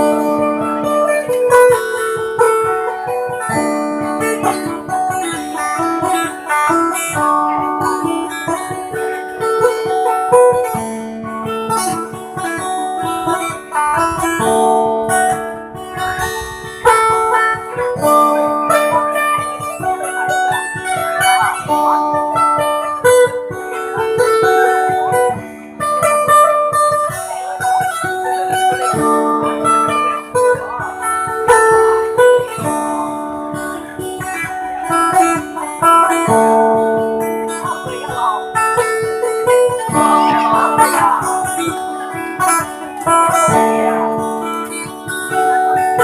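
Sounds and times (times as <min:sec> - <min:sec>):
plucked lute melody over drone: 0:00.0 - 0:46.0.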